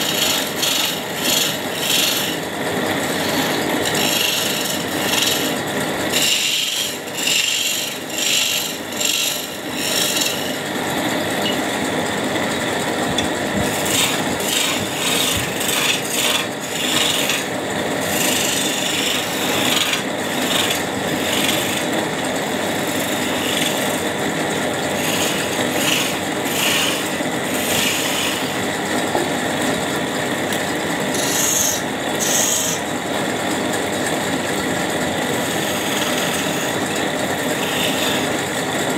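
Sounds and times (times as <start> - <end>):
chisel scraping spinning wood: 0.0 - 38.9.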